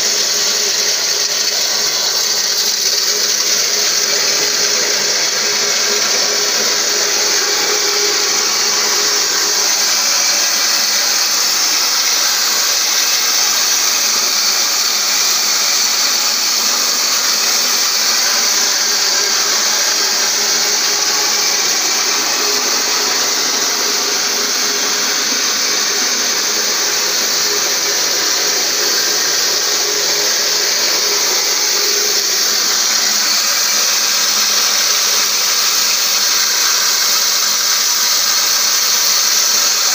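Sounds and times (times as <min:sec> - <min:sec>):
grain mill motor running: 0:00.0 - 0:39.9.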